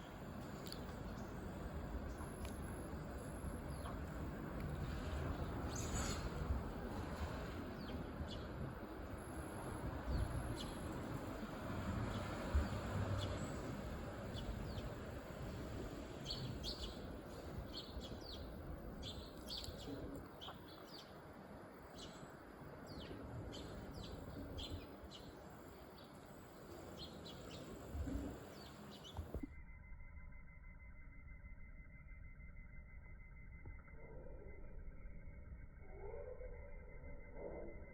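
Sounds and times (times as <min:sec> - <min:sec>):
low outdoor noise: 0:00.0 - 0:37.9.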